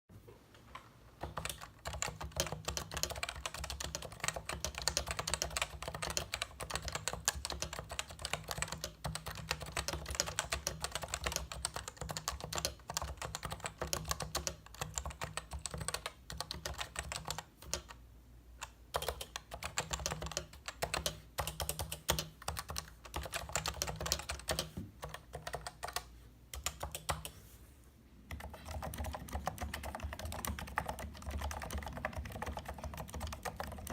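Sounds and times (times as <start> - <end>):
fast keyboard typing: 1.2 - 18.0, 18.6 - 27.4, 28.3 - 33.9.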